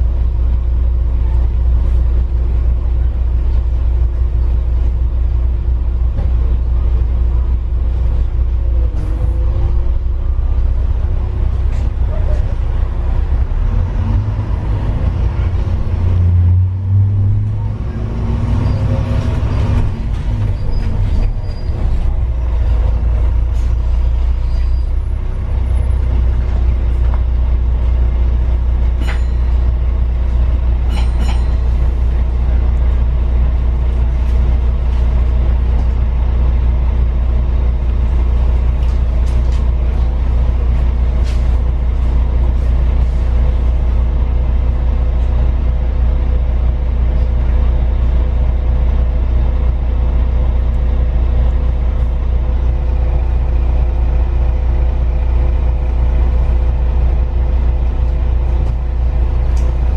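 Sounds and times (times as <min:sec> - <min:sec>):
vehicle rumble from on board: 0:00.0 - 0:59.9.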